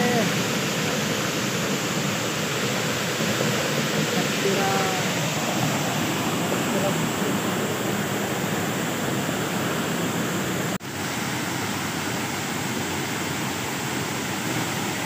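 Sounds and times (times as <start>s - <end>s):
waterfall pouring over rocks: 0.0s - 15.0s.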